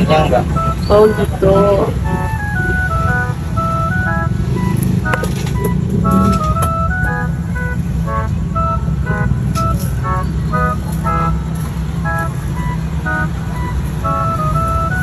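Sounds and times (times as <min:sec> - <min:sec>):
tinkly jingle tune: 0:00.0 - 0:15.0.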